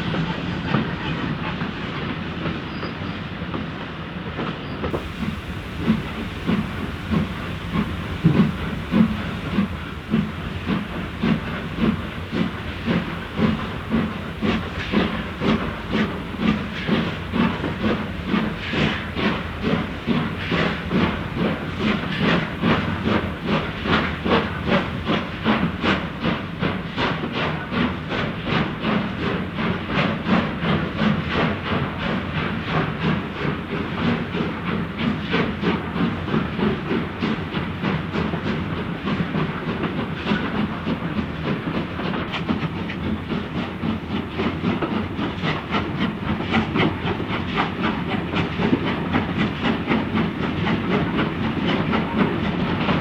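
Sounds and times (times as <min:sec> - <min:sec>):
steam locomotive exhaust chuffing: 0:04.8 - 0:53.0
steam hissing: 0:04.9 - 0:53.0.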